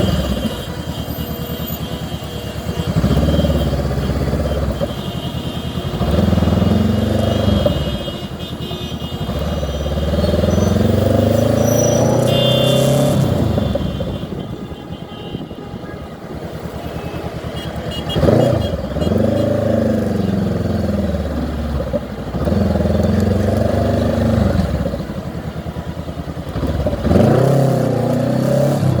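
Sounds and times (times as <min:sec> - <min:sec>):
motorcycle engine accelerating: 0:02.6 - 0:08.4, 0:09.2 - 0:14.4, 0:16.4 - 0:29.0.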